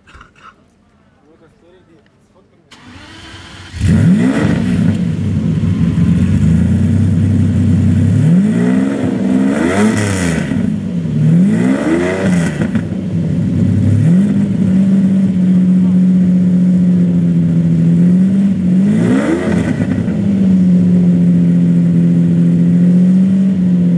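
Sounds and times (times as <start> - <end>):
car engine starting and revving: 2.7 - 23.9.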